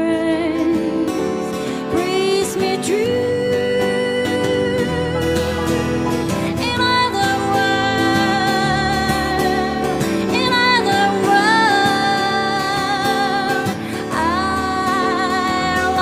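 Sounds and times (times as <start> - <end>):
keyboard accompaniment: 0.0 - 16.0
person singing with vibrato: 0.0 - 16.0.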